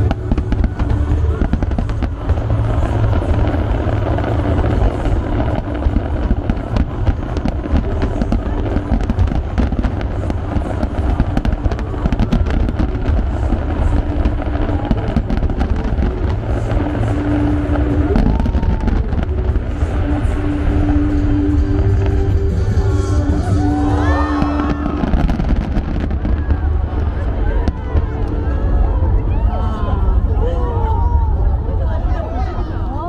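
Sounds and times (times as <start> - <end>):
fireworks cracks and pops: 0.0 - 28.5
low booming rumble: 0.0 - 33.0.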